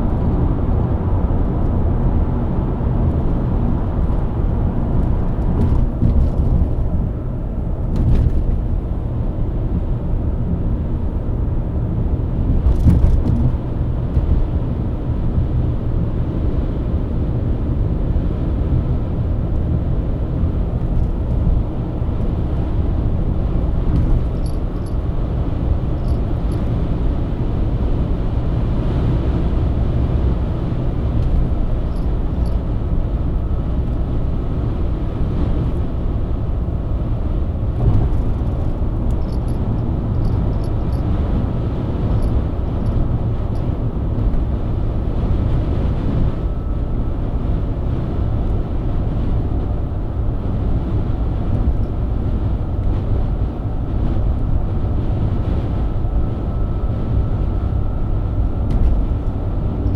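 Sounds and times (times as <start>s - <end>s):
car engine cruising: 0.0s - 59.9s
tyre and road rumble: 0.0s - 59.9s.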